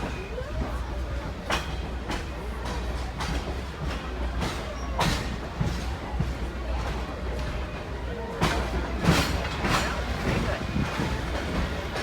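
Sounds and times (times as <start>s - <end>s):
rail car rumbling on track: 0.0s - 12.0s.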